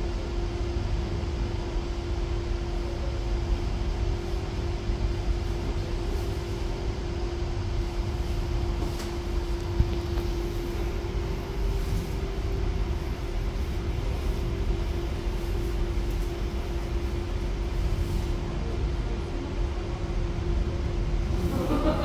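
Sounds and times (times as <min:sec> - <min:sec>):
mid-pitched hum: 0:00.0 - 0:22.0
subway station rumble: 0:00.0 - 0:22.0.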